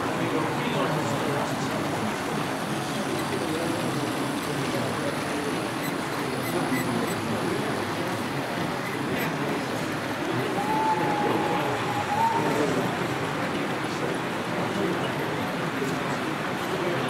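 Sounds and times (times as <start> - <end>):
model trains running: 0.0 - 17.0
murmured voices: 0.0 - 17.0.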